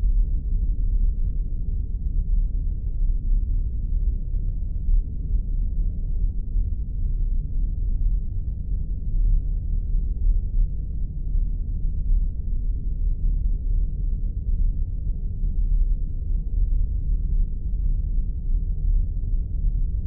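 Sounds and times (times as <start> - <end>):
deep steady rumble: 0.0 - 20.0.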